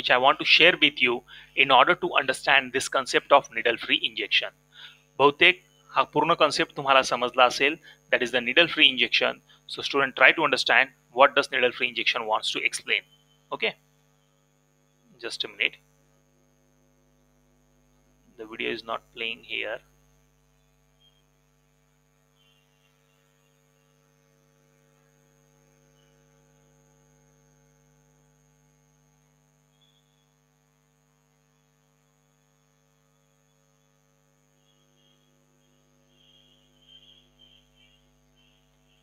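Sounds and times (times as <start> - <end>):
faint electrical hum: 0.0 - 39.0.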